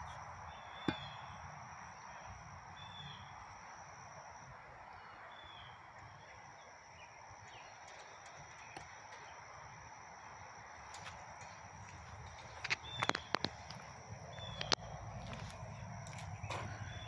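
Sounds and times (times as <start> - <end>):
faint bird chirps: 0.0 - 3.8, 4.9 - 17.0.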